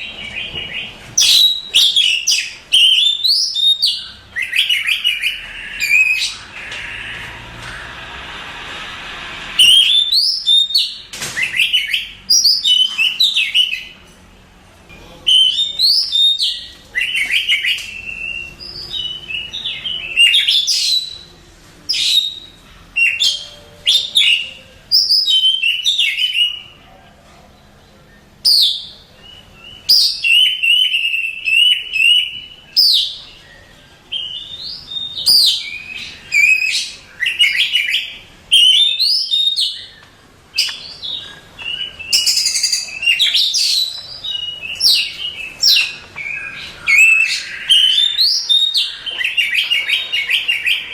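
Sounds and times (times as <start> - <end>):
bird singing whistled phrases: 0.1 - 7.2, 9.6 - 14.0, 15.2 - 21.3, 21.9 - 26.8, 28.4 - 40.0, 40.6 - 50.9.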